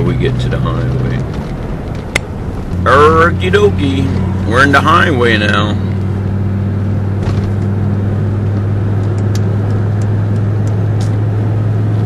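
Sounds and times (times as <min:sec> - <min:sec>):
diesel engine drone: 0:00.0 - 0:12.0
road and wind noise: 0:00.0 - 0:12.0.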